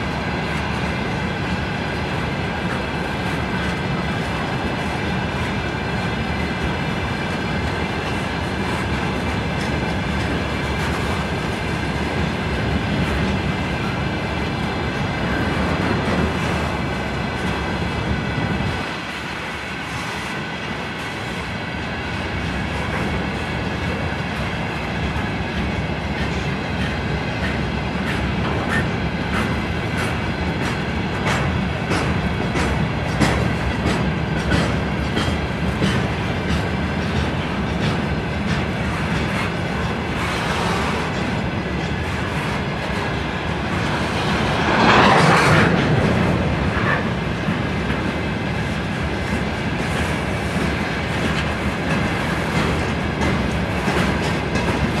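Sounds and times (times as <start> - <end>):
heavy rumble of train wagons: 0.0 - 55.0.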